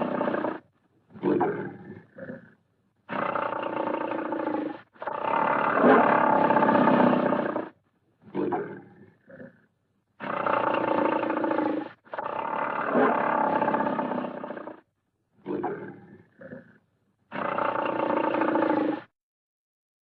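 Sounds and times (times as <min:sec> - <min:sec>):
tiger roaring: 0:00.0 - 0:02.5, 0:03.1 - 0:09.6, 0:10.2 - 0:14.8, 0:15.4 - 0:19.1.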